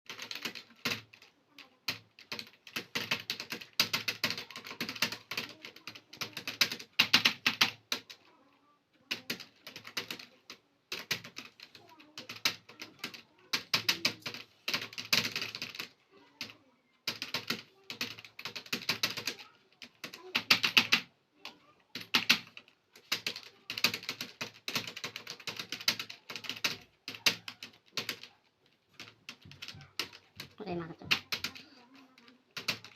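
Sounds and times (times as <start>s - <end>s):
fast typing on keyboard: 0.1s - 32.9s.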